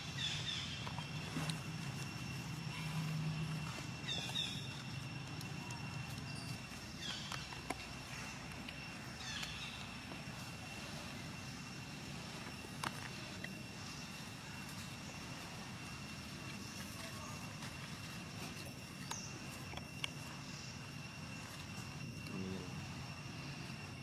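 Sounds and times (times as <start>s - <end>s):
steady high whine: 0.0s - 24.0s.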